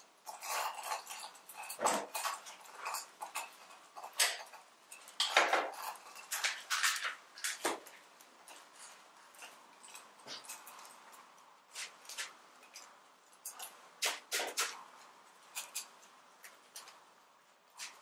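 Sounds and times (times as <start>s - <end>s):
clay pots and metal clinking: 0.0s - 18.0s.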